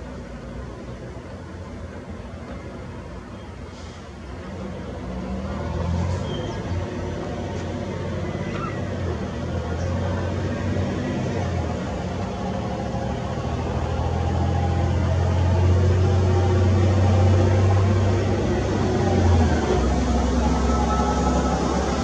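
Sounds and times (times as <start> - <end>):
city background noise: 0.0 - 22.0
vehicle engine hum: 0.0 - 22.0.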